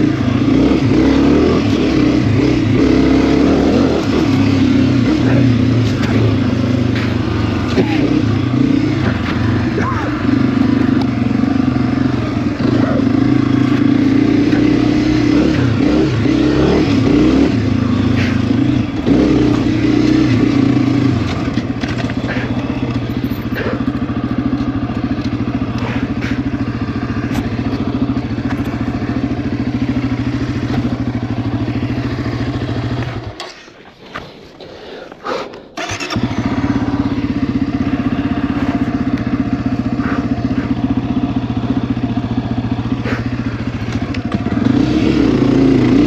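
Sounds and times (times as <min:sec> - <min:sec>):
motorcycle engine running: 0:00.0 - 0:33.7, 0:35.8 - 0:46.0.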